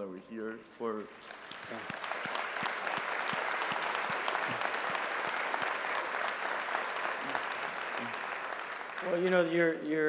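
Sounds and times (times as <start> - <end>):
audience applauding: 1.0 - 9.7.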